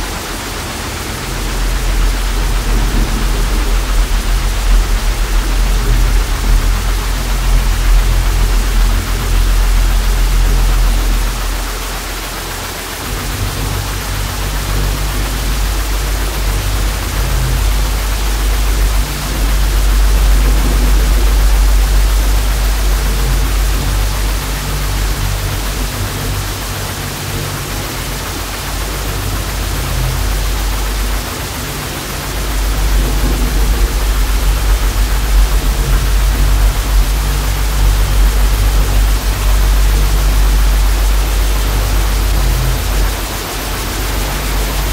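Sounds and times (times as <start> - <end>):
deep low droning hum: 0.0 - 44.9
tv static hiss: 0.0 - 44.9.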